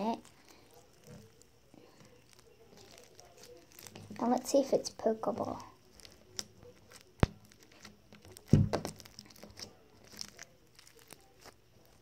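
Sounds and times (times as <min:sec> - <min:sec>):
sticky slime clicks and crackles: 0:00.0 - 0:04.6, 0:05.3 - 0:12.0.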